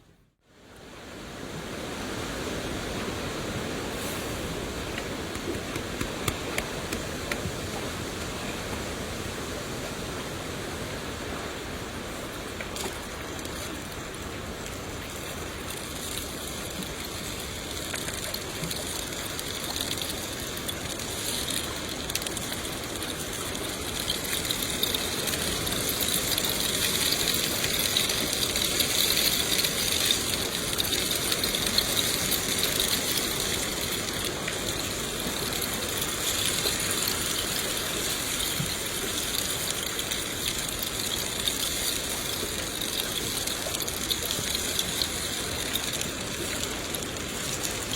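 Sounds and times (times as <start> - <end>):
rain falling: 1.8 - 47.9.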